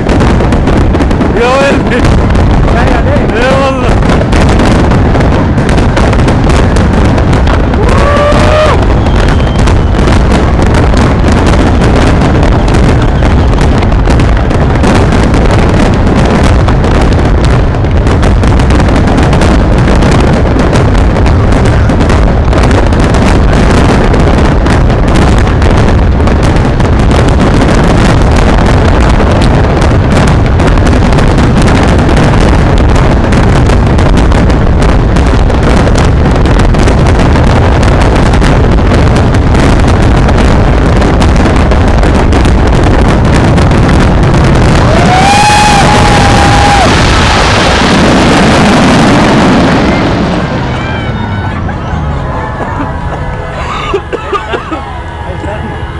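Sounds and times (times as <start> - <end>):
fireworks bangs and crackling: 0.0 - 55.9
rising firework whistle: 0.0 - 55.9.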